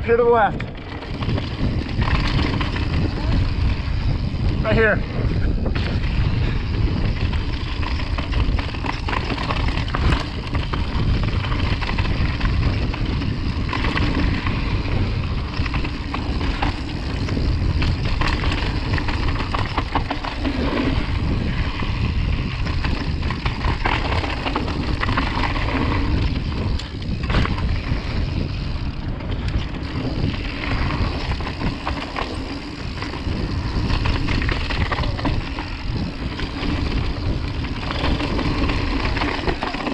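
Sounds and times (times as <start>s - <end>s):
bike rattling: 0.0s - 39.9s
bike tyres on gravel: 0.0s - 39.9s
wind on microphone: 0.0s - 39.9s.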